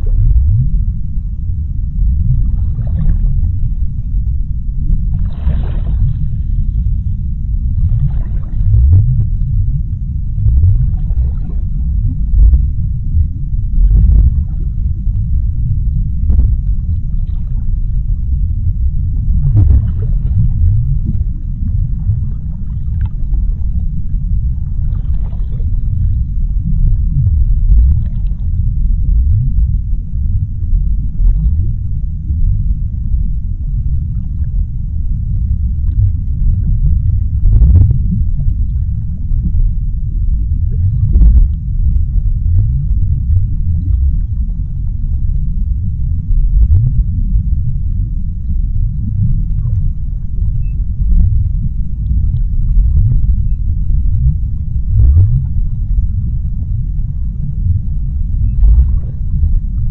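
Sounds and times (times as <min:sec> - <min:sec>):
low underwater rumble: 0:00.0 - 0:59.9.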